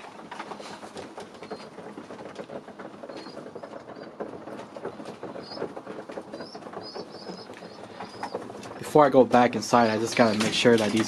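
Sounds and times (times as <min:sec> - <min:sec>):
pigeons pecking on wood: 0:00.0 - 0:11.0.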